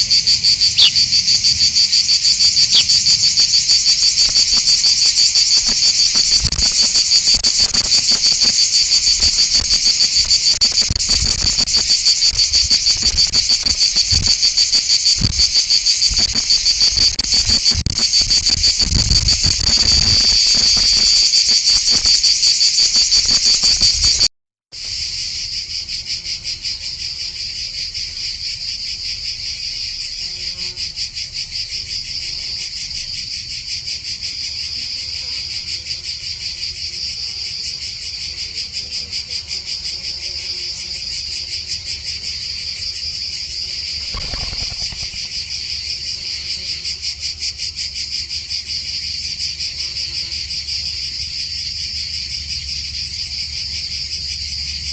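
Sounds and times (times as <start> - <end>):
insect chorus trilling: 0.0 - 54.9.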